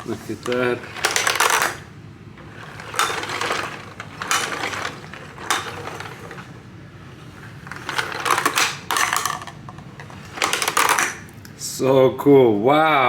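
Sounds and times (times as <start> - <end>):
plastic ball rattling through toy: 0.0 - 6.6, 7.2 - 11.4.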